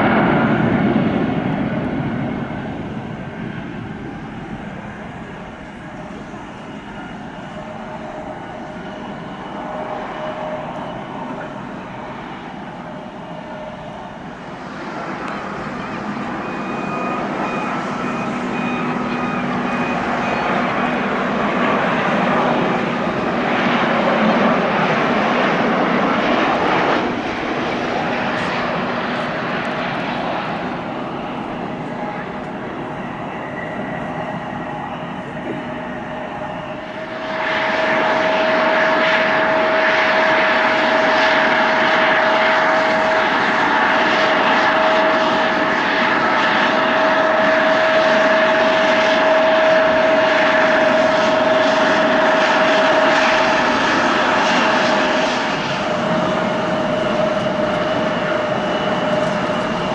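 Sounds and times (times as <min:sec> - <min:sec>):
jet engine whine: 0:00.0 - 0:59.9
jet engines roaring: 0:00.0 - 0:59.9.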